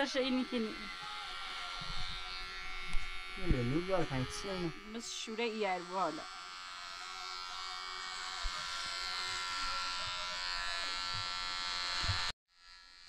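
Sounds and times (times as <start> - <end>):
small motor buzzing with high whine: 0.0 - 13.0.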